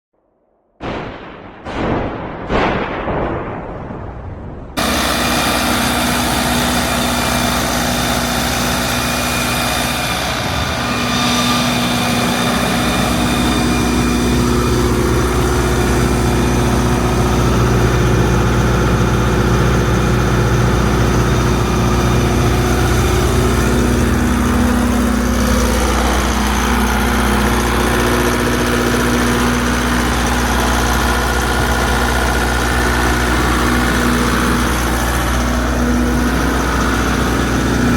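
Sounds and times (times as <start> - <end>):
diesel generator running: 4.8 - 37.9.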